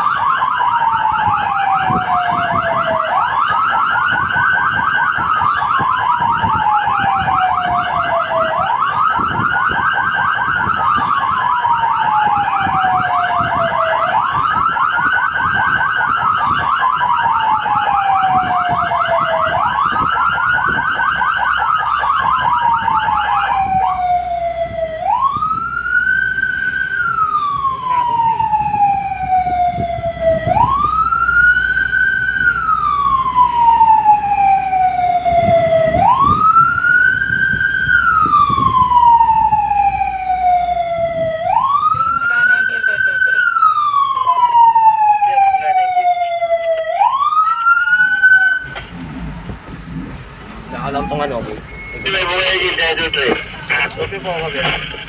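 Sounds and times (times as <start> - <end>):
engine low rumble: 0.0 - 55.0
fire engine siren wailing: 0.0 - 55.0
rapidly pulsing siren tone: 0.0 - 55.0.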